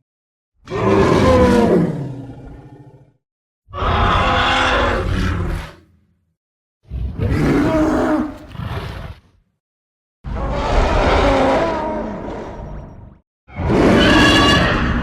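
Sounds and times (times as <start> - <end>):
roar sound effect: 0.6 - 5.9, 6.8 - 9.4, 10.2 - 15.0.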